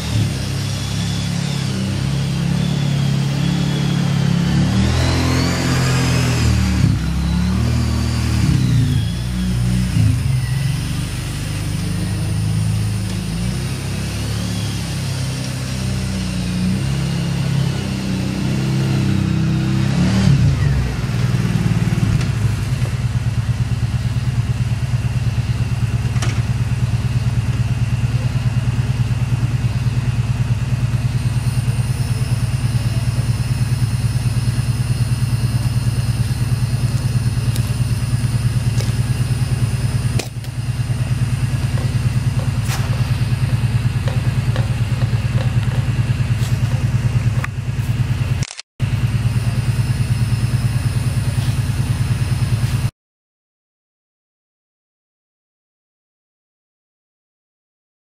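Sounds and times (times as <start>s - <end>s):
atv engine revving and idling: 0.0s - 52.9s.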